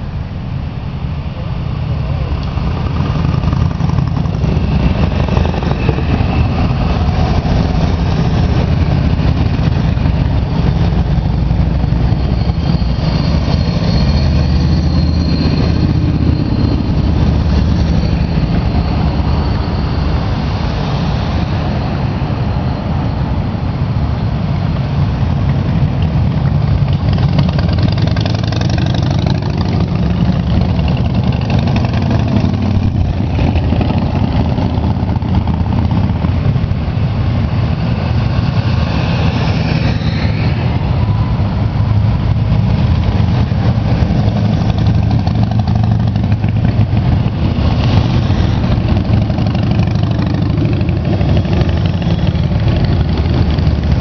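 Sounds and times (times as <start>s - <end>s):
rumble of many engines: 0.0s - 54.0s.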